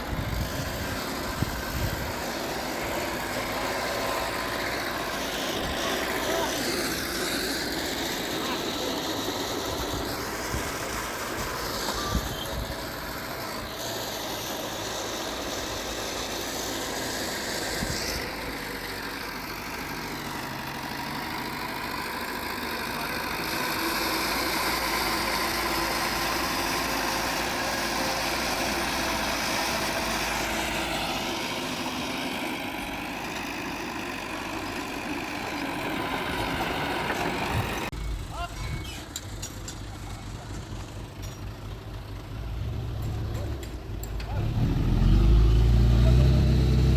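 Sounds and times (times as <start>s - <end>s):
diesel machinery engines running: 0.0s - 46.9s.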